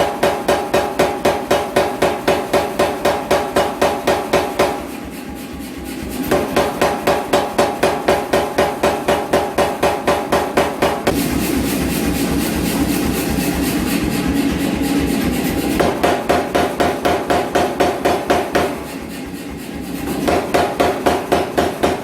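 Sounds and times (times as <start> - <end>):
hammer blows forging steel: 0.0 - 22.0.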